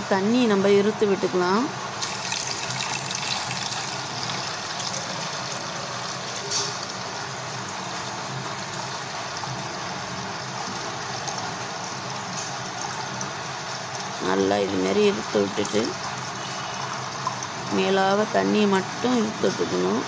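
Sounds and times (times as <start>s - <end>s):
water pouring into a steel pot: 1.9s - 19.6s.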